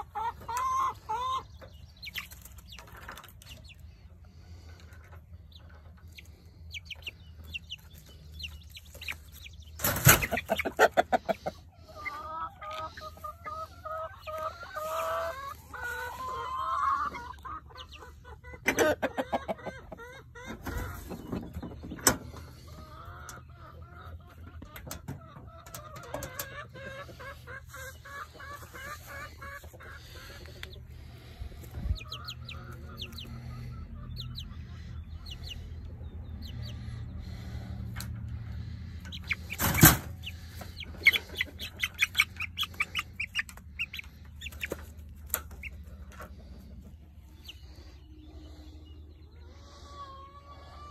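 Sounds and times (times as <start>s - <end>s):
chicks clucking: 0.0s - 50.9s.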